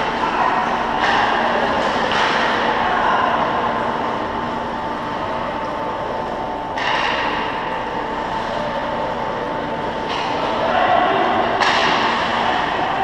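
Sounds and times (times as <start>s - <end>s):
ice rink hum and rush: 0.0s - 13.0s.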